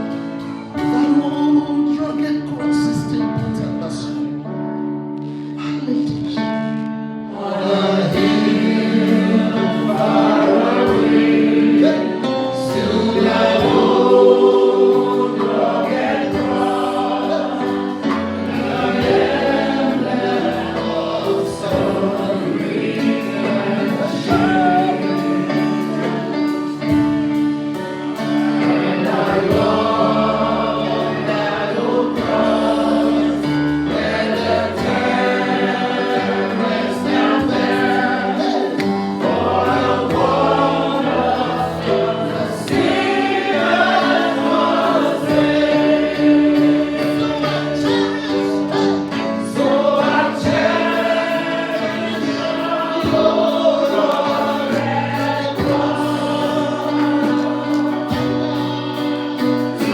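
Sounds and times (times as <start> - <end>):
choir singing a gospel hymn: 0.0 - 59.9
sustained musical accompaniment: 0.0 - 59.9.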